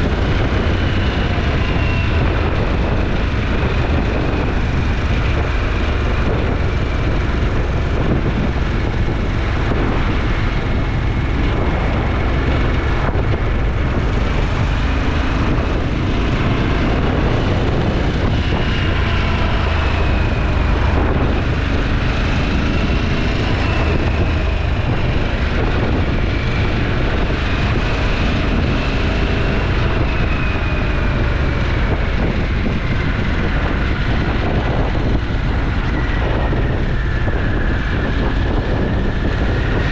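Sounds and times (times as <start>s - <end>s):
motorcycle engine running: 0.0s - 39.9s
wind rush on camera: 0.0s - 39.9s.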